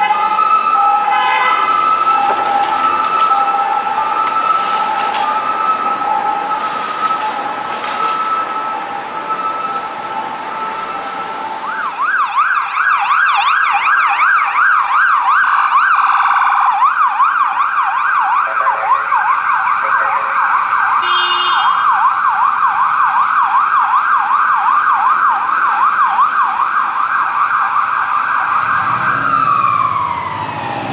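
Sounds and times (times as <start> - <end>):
ambulance siren fast yelp: 0.0 - 30.9
police siren high-low tone: 0.0 - 30.9.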